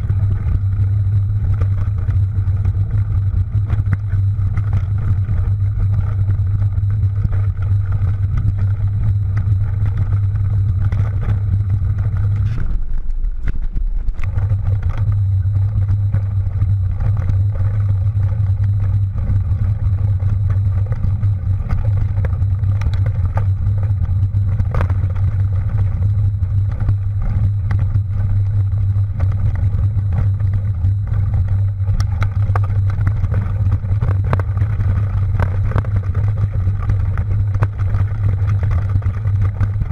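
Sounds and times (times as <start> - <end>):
bike rattles and clicks: 0.0 - 39.9
wind and riding rumble: 0.0 - 39.9.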